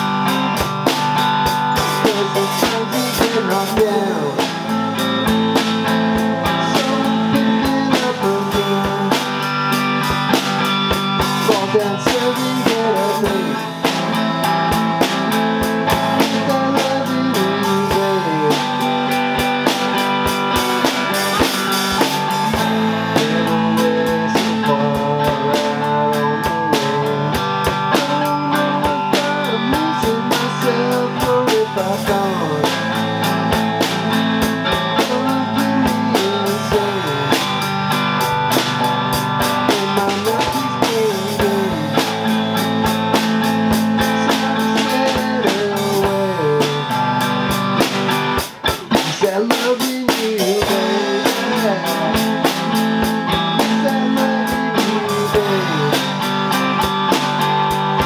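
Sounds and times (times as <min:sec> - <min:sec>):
drum kit steady beat: 0:00.0 - 0:58.0
electric guitar with string bends: 0:00.0 - 0:58.0.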